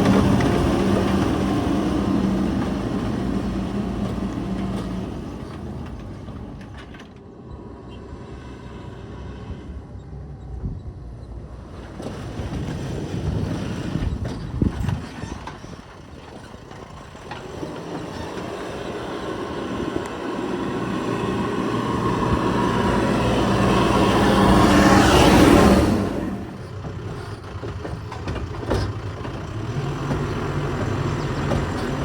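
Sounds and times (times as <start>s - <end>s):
engine knocks: 0.0s - 7.3s, 11.8s - 32.0s
heavy diesel engine working: 0.0s - 32.0s.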